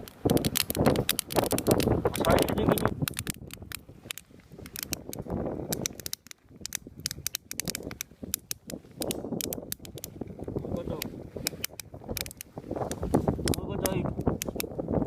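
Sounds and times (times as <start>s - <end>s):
sharp clicks and crackles: 0.0s - 14.8s
wind rumbling on microphone: 0.0s - 15.0s.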